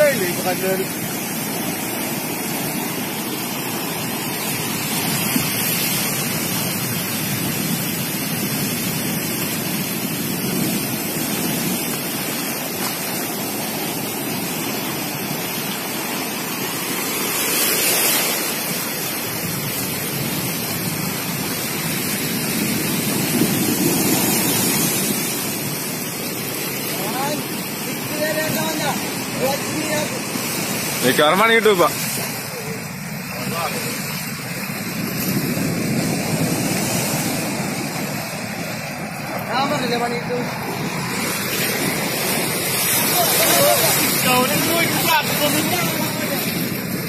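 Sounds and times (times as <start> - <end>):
waves breaking and surf rushing: 0.0 - 47.0.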